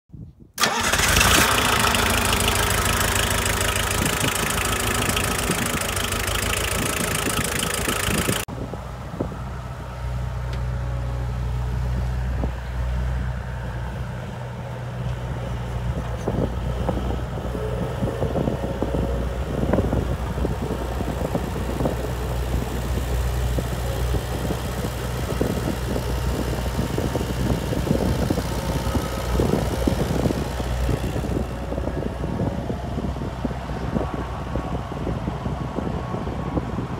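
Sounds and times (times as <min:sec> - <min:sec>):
skid steer engine running: 0:00.6 - 0:36.9.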